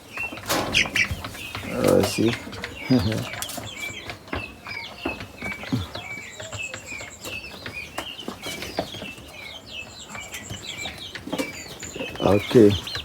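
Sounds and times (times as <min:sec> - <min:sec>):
chicks peeping and chirping: 0:00.0 - 0:13.0.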